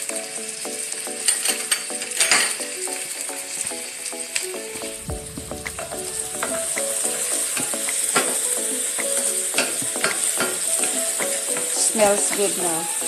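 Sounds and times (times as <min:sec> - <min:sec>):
background music: 0:00.0 - 0:13.0
garlic and onion sizzling in oil: 0:00.0 - 0:13.0.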